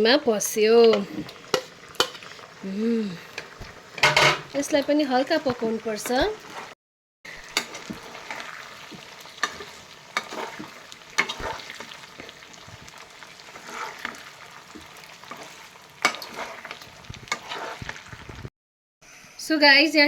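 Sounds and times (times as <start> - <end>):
chicken sizzling in oil: 0.0 - 18.5.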